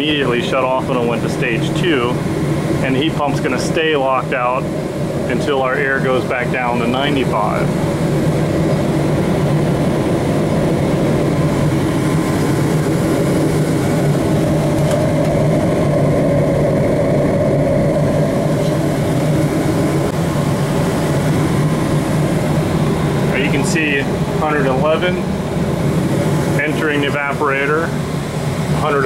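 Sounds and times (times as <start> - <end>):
blower pushing air: 0.0 - 29.0
oil furnace burner rumbling: 0.0 - 29.0.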